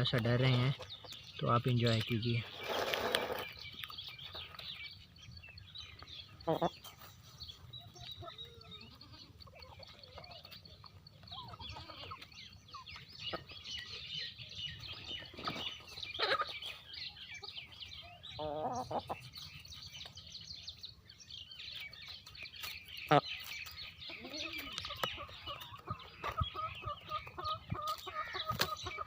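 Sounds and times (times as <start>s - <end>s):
chickens clucking: 0.0s - 29.0s
small birds chirping: 0.0s - 29.0s.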